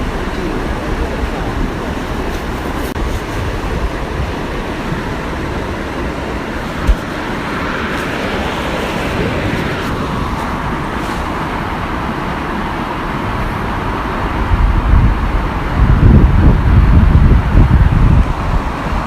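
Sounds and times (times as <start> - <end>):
waterfall rushing: 0.0 - 19.0
wind gusts on microphone: 0.0 - 19.0.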